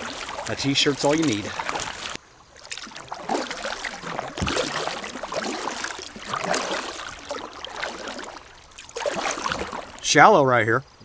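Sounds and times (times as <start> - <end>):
paddle strokes splashing: 0.0 - 10.3.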